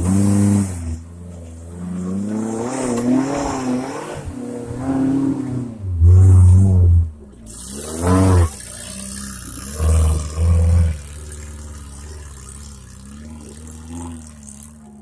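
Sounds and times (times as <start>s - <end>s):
off-road engine revving: 0.0s - 15.0s.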